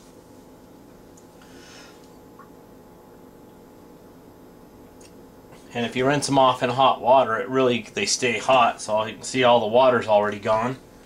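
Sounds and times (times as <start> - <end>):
low even hum: 0.0 - 11.0.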